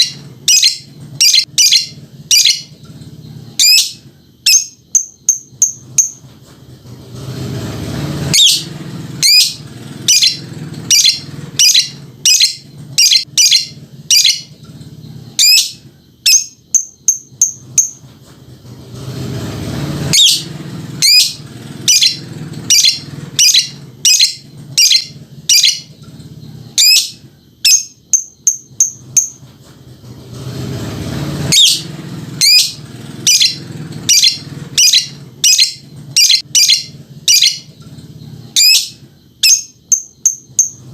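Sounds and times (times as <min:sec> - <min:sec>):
lovebird chirping and chattering: 0:00.0 - 0:06.2, 0:08.3 - 0:18.0, 0:20.1 - 0:29.4, 0:31.5 - 0:40.9.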